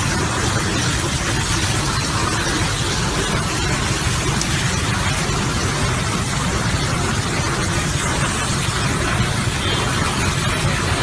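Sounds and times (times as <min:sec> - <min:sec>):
high-pressure water jet hissing: 0:00.0 - 0:11.0.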